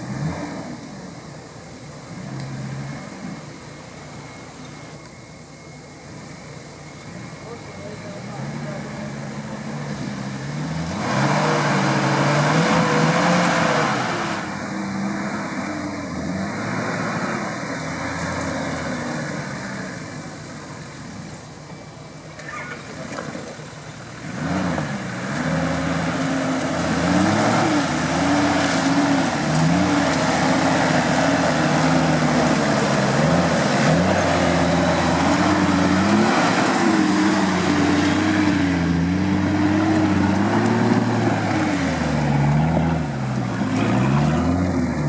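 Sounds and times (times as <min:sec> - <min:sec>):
off-road vehicle engine revving: 0:00.0 - 0:04.8, 0:06.9 - 0:45.0.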